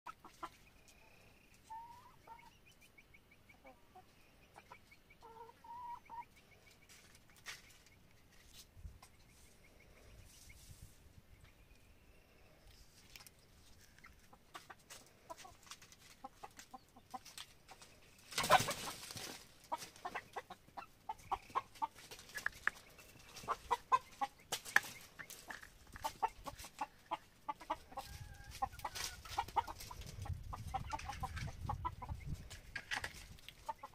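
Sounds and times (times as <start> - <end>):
chickens clucking: 0.1 - 11.9, 12.6 - 33.9.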